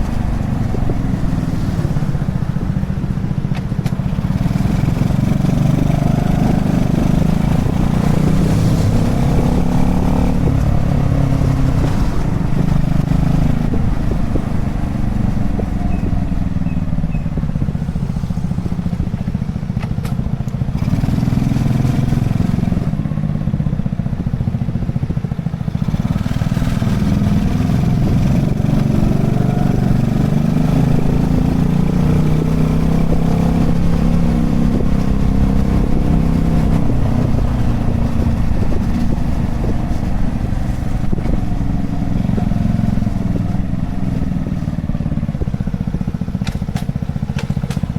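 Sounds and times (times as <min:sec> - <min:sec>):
small motorbike engine running: 0:00.0 - 0:47.9.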